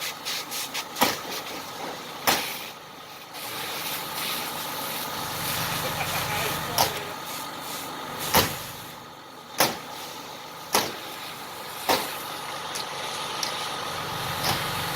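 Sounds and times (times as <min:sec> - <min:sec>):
engine idling hum: 0:00.0 - 0:14.9.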